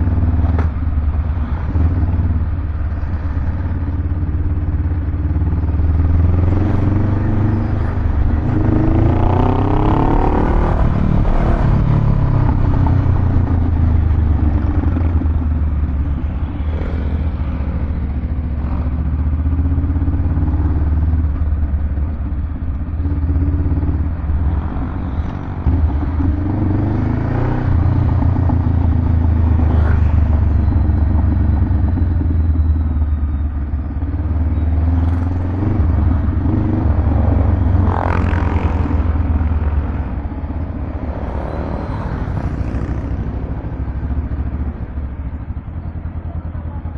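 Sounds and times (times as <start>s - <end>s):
motorcycle engine deep rumble: 0.0s - 46.9s.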